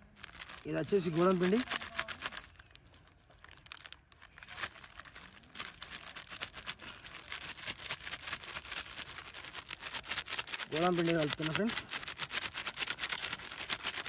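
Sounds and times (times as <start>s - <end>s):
flour bag crinkling: 0.0s - 14.0s.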